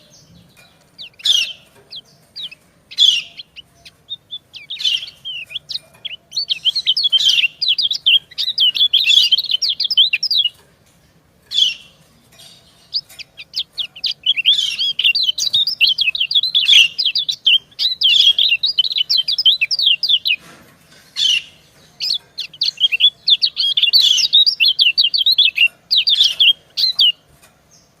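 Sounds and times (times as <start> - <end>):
bird giving rapid high chirps: 0.9 - 10.6, 11.6 - 20.4, 21.2 - 27.2.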